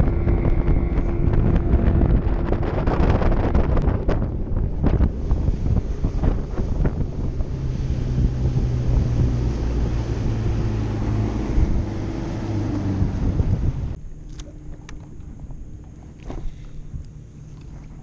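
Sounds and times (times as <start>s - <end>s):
low motor hum: 0.0s - 18.0s
wind buffeting microphone: 0.0s - 18.0s.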